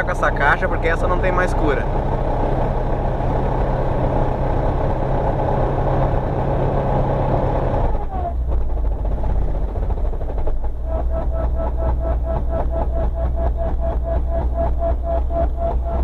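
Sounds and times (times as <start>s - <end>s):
car engine revving: 0.0s - 16.0s
transmission grinding: 0.0s - 16.0s.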